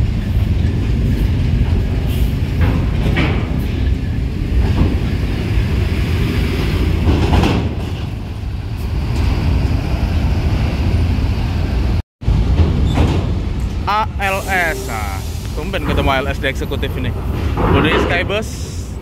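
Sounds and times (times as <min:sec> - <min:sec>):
diesel coaches rumbling: 0:00.0 - 0:19.0.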